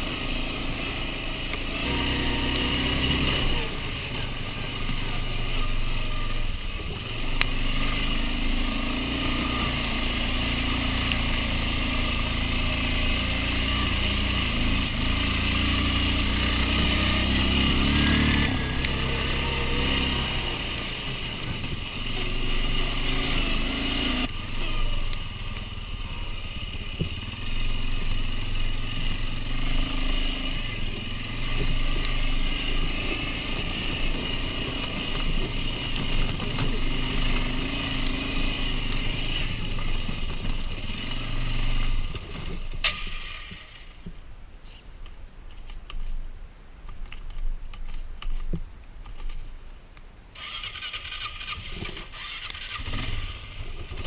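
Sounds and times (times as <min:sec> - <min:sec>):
quad bike engine running: 0:00.0 - 0:44.1, 0:50.4 - 0:54.0.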